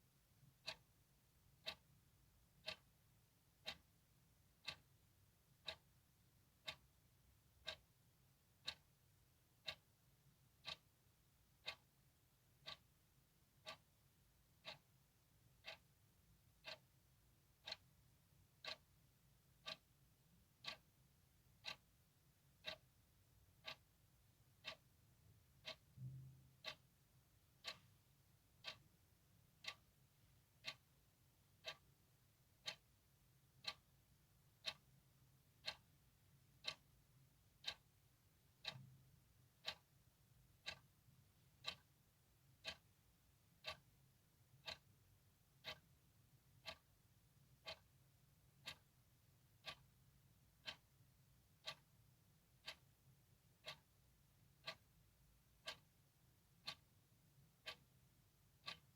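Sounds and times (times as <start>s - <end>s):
clock ticking: 0.2s - 58.9s.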